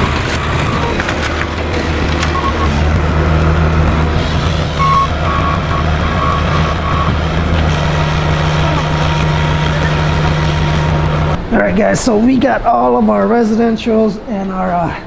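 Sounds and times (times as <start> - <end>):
backup alarm beeping: 0.0 - 12.6
diesel engine running: 0.0 - 13.2.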